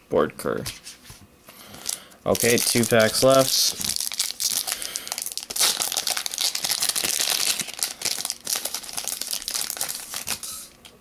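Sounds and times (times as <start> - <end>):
foil wrapper crinkling: 1.8 - 10.8.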